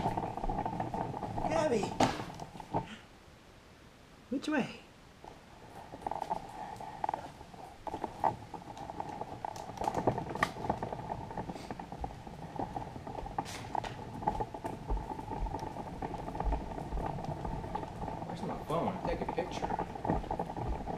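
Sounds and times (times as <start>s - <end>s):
stroller wheels rattling on wood floor: 0.0s - 3.0s, 5.2s - 20.9s.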